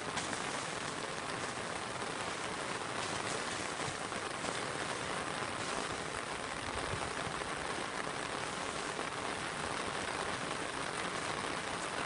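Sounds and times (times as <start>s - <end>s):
rain falling on grass: 0.0s - 12.0s.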